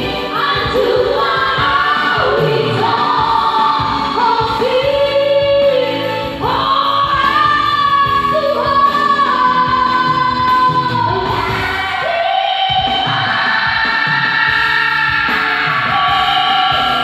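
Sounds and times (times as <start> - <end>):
backing music: 0.0 - 17.0
voices singing harmony: 0.0 - 17.0
woman singing: 0.0 - 17.0.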